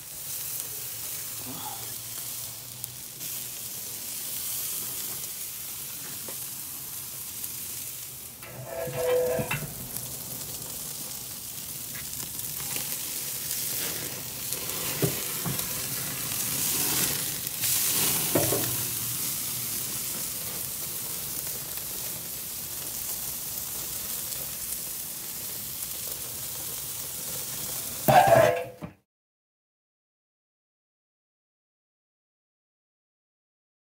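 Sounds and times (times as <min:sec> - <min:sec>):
steaks sizzling on a grill: 0:00.0 - 0:28.4.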